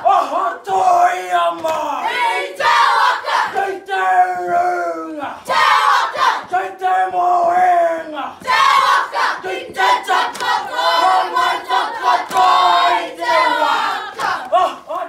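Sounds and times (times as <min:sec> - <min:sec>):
group chanting in unison: 0:00.0 - 0:15.0.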